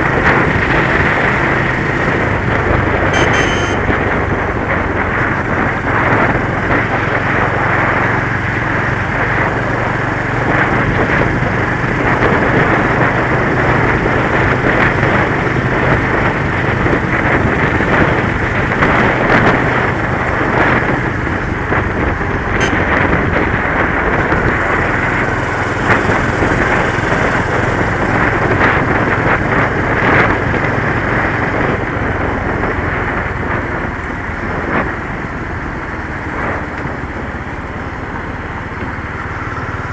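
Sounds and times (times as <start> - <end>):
motorcycle engine hum: 0.0 - 39.9
wind noise on microphone: 0.0 - 39.9.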